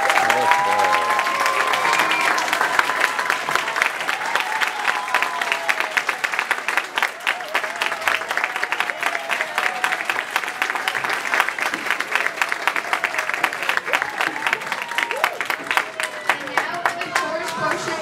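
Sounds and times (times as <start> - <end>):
audience clapping: 0.0 - 18.0.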